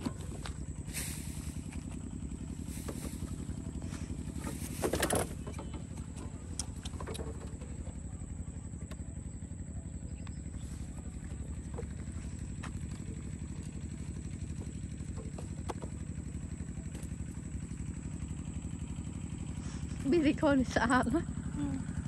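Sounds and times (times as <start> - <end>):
scooter engine idling: 0.0 - 22.0.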